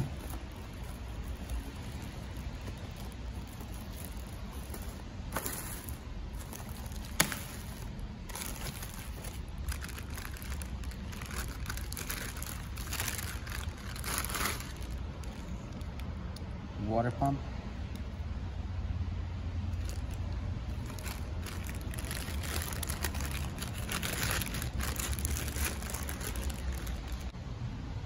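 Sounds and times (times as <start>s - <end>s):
plastic wrap crinkling: 0.0s - 16.0s, 19.8s - 27.3s
steady low hum: 0.0s - 28.0s.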